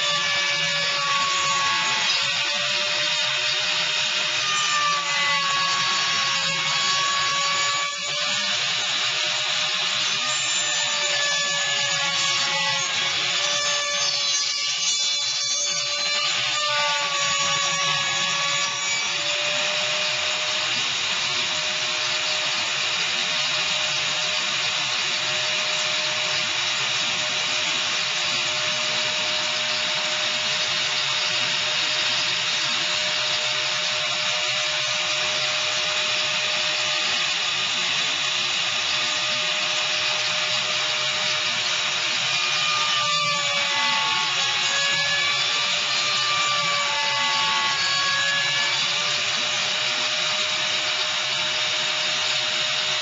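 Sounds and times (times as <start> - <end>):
router cutting wood: 0.0 - 53.0
router spindle whine: 0.0 - 53.0.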